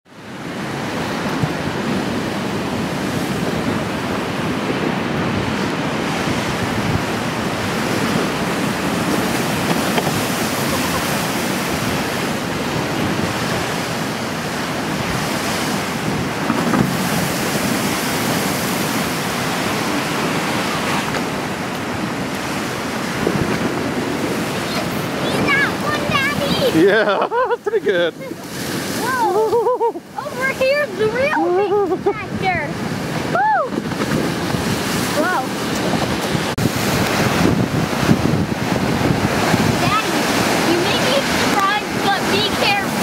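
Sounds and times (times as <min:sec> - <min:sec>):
waves breaking against seawall: 0:00.1 - 0:43.0
wind buffeting microphone: 0:00.2 - 0:43.0.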